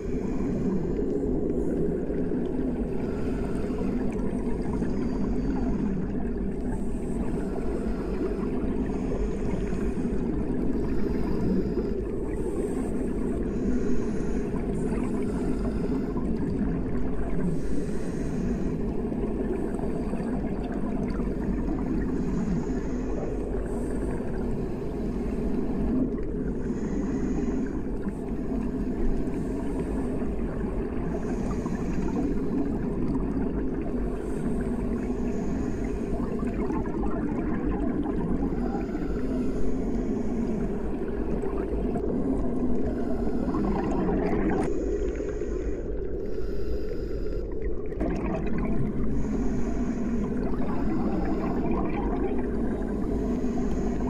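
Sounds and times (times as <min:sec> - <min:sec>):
underwater rush of water: 0:00.0 - 0:54.0.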